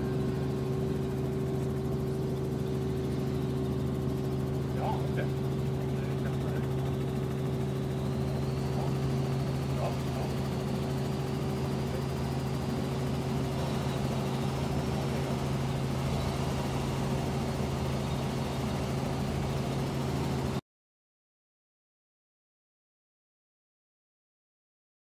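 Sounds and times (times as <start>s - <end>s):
helicopter drone from inside cabin: 0.0s - 20.6s.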